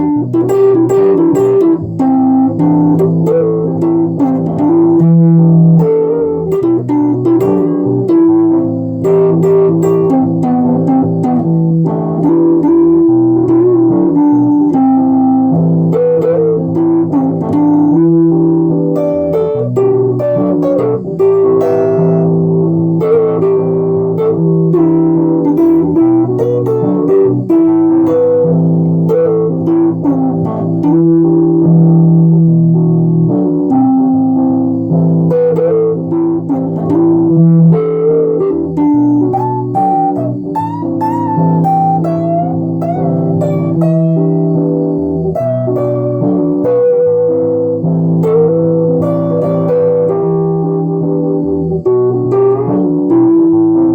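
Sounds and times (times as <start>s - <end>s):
plucked guitar melody: 0.0s - 53.9s
steady bass line: 0.0s - 53.9s.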